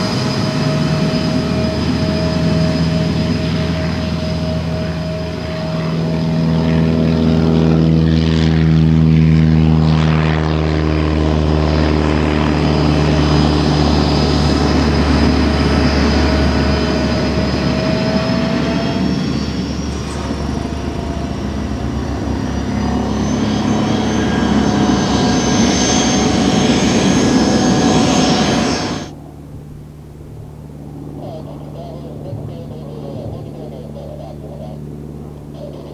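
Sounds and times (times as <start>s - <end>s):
jet engine whine: 0.0s - 35.9s.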